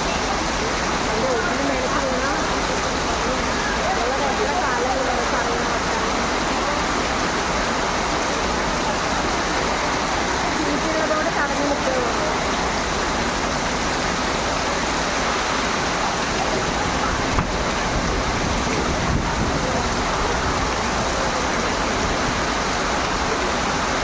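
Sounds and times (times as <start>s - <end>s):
extreme wind and heavy rain: 0.0s - 24.0s.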